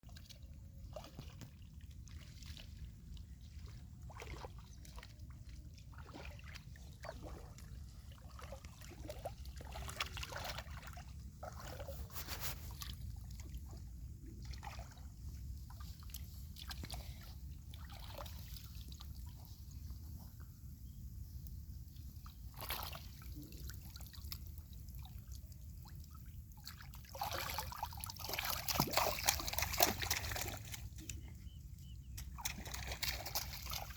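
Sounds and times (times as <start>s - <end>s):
water sloshing and splashing: 0.1s - 33.9s.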